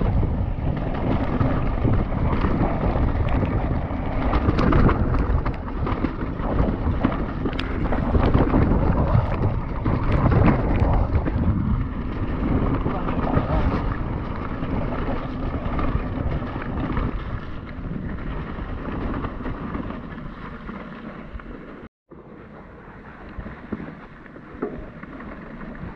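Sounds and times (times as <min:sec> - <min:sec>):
bike rattling over bumps: 0:00.0 - 0:25.9
bike tyres rumbling: 0:00.0 - 0:25.9
wind rushing over microphone: 0:00.0 - 0:25.9.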